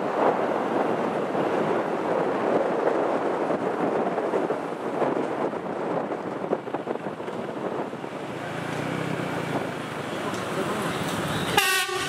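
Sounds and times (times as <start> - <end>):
road traffic rushing: 0.0 - 12.0
wind buffeting microphone: 0.0 - 12.0.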